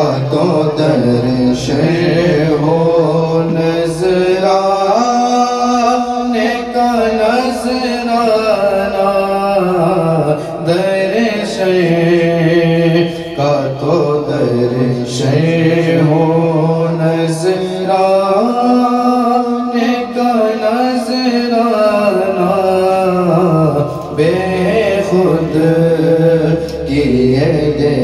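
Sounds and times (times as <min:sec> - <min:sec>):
men chanting: 0:00.0 - 0:28.0.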